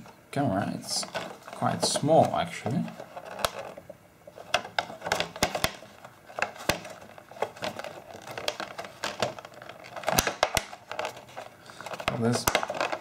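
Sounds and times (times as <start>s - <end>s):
plastic packaging clicking and crackling: 0.9s - 13.0s.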